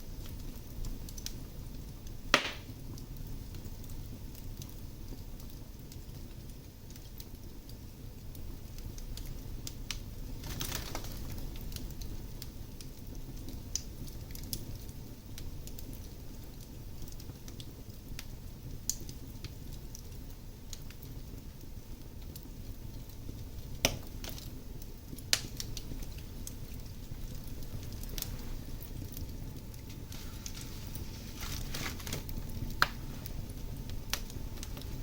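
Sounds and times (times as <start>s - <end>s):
wood fire crackling: 0.0s - 35.0s
sharp pops from fire: 2.0s - 4.8s, 8.3s - 21.1s, 22.2s - 35.0s
fire hissing: 7.0s - 35.0s.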